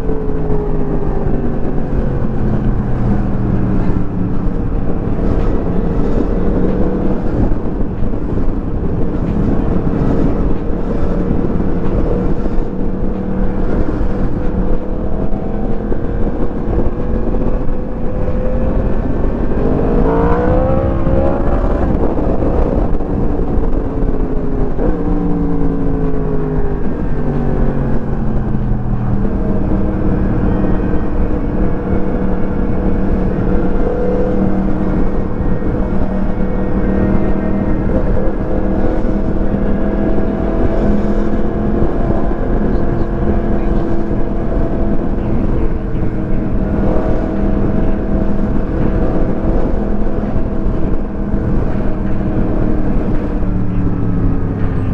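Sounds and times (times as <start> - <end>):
motorcycle engine revving: 0.0 - 54.9
wind and road noise: 0.0 - 54.9.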